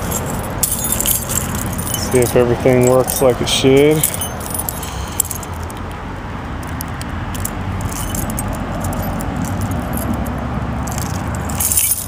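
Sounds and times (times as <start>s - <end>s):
keys jingling: 0.0s - 6.0s, 6.6s - 12.0s.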